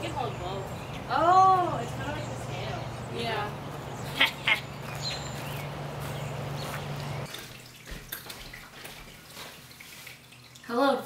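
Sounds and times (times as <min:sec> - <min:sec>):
low outdoor hum: 0:00.0 - 0:11.0.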